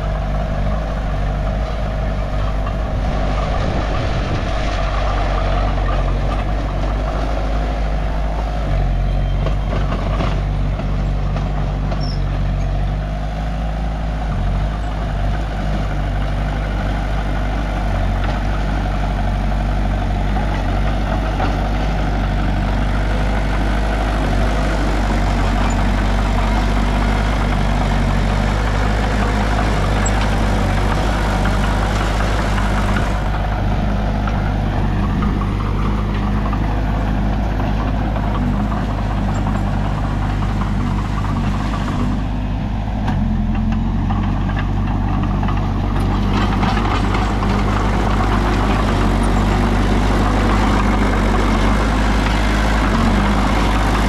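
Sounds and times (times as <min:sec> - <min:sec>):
bulldozer engine working: 0:00.0 - 0:54.0
excavator diesel engine running: 0:00.0 - 0:54.0.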